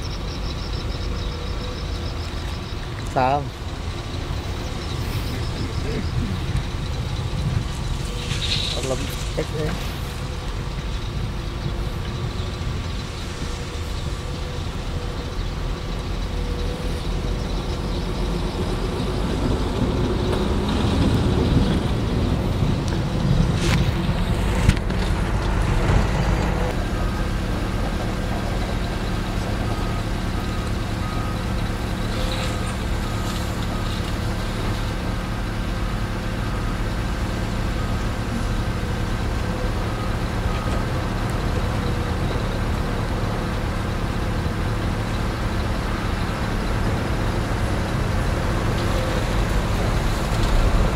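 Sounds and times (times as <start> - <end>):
diesel engines running: 0.0 - 50.9.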